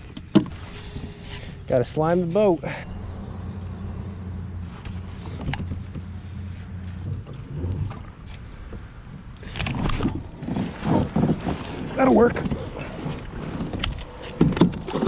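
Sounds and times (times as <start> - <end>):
wind noise on microphone: 2.9 - 15.0.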